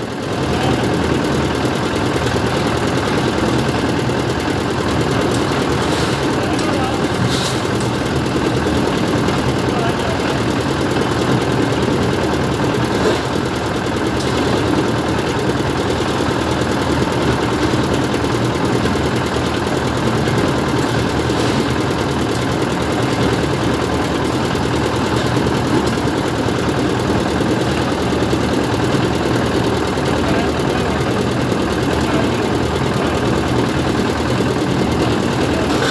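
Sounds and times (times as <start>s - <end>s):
engine idling: 0.0s - 35.9s.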